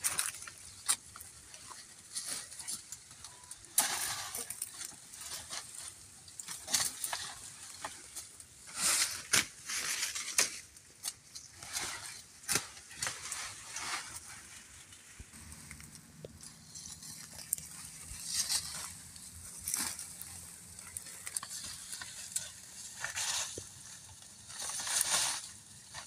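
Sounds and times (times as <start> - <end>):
leaves and branches rustling: 0.0 - 26.0.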